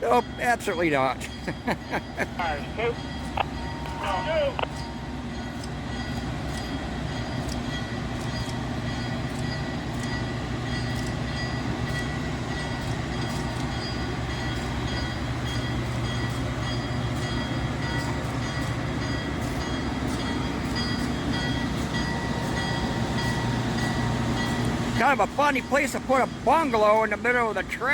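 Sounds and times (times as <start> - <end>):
locomotive engine rumble: 0.0 - 27.9.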